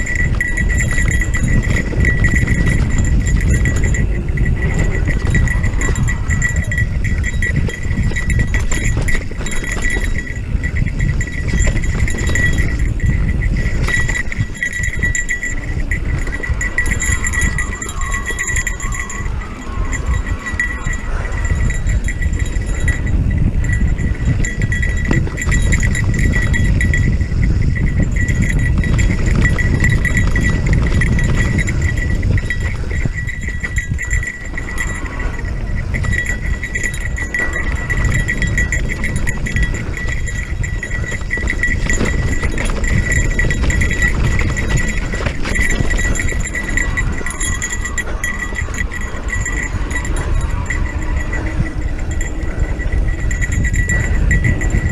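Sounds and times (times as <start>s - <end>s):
bike rattling and clattering: 0.0s - 54.9s
high ringing tone: 0.0s - 54.9s
wind rumble on microphone: 0.0s - 54.9s.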